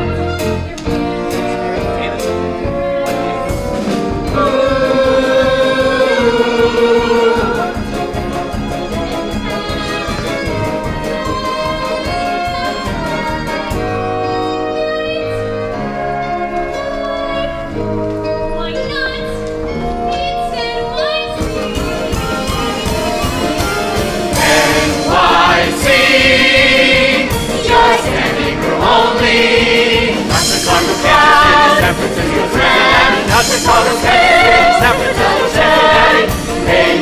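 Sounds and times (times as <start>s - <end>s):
orchestra with brass: 0.0s - 37.0s.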